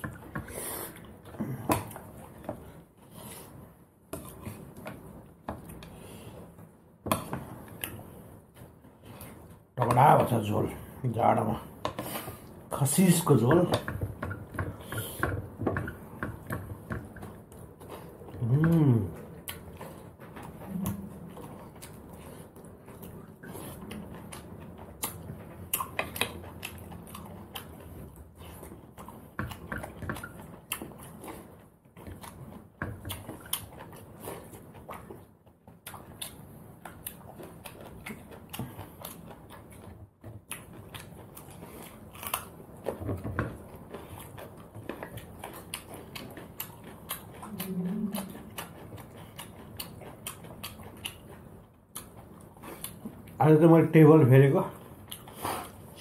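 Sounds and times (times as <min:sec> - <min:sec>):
close-up wet chewing: 0:00.0 - 0:56.0.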